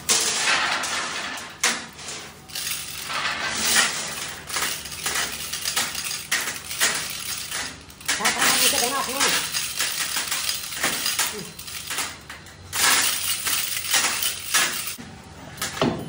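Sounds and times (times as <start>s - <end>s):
hoist chain clinking and rattling: 0.5s - 15.0s.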